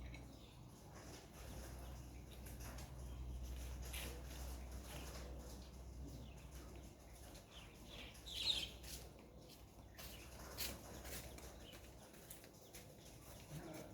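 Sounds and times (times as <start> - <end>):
faint bird chirping: 0.0 - 13.9.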